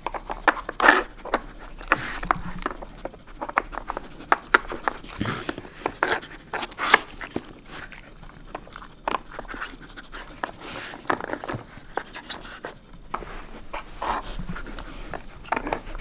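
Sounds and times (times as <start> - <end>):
dog panting and sniffing: 0.0 - 16.0.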